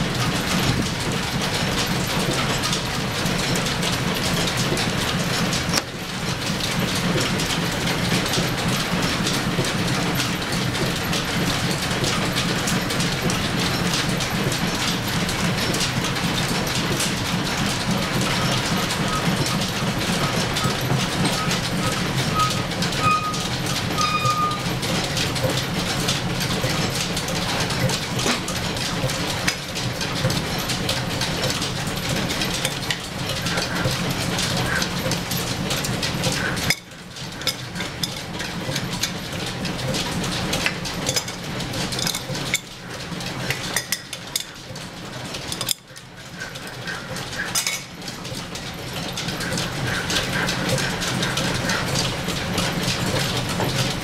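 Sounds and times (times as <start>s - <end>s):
lathe and line shaft clattering: 0.0s - 54.0s.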